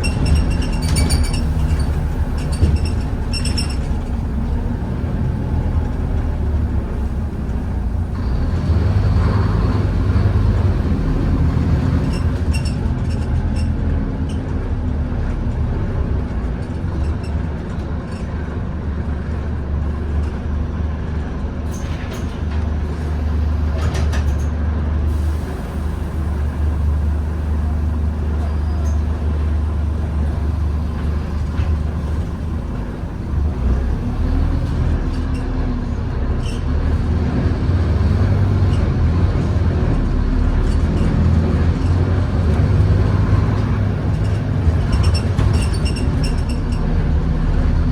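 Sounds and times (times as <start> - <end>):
bus diesel engine drone: 0.0 - 47.9.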